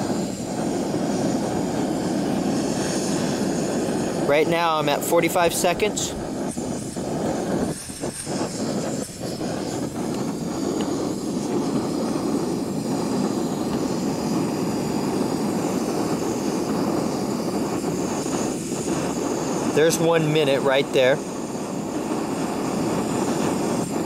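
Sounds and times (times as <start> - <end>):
gas stove burning: 0.0 - 24.0.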